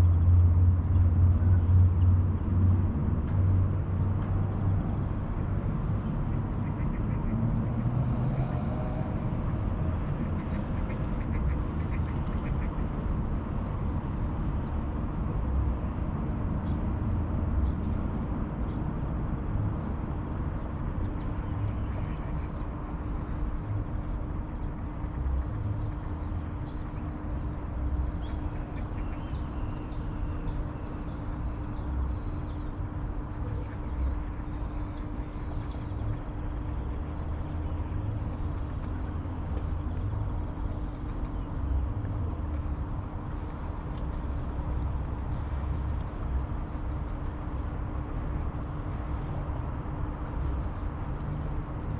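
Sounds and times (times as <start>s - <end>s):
distant traffic rumble: 0.0s - 51.9s
faint constant hum: 0.0s - 51.9s.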